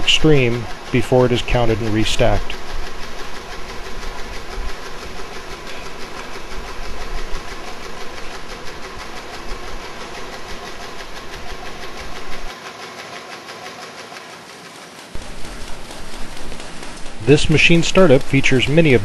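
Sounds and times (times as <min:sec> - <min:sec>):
low mechanical rumble: 0:00.0 - 0:12.5, 0:15.2 - 0:19.0
machine clattering: 0:00.0 - 0:19.0.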